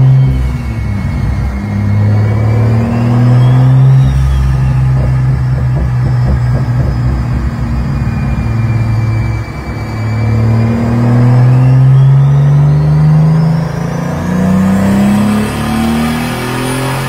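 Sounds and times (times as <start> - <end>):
car engine revving on dyno: 0.0 - 17.0
high whine: 0.0 - 17.0.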